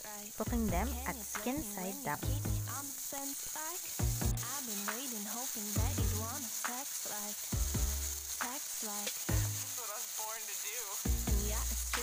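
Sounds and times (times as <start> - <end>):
chicken sizzling on grill pan: 0.0 - 12.0
pop song with singing: 0.0 - 12.0.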